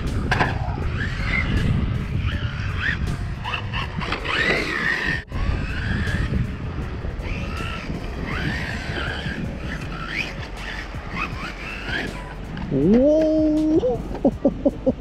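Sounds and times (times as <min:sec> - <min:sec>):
wind rumble on microphone: 0:00.0 - 0:15.0
rc car motor whining: 0:00.1 - 0:13.1.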